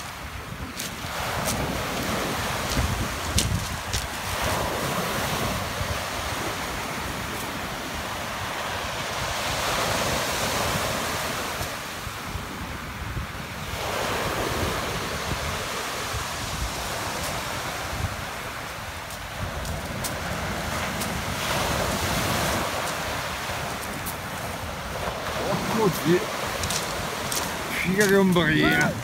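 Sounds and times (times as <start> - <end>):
waves washing up pebble beach: 0.0 - 29.0
wind buffeting microphone: 0.0 - 29.0.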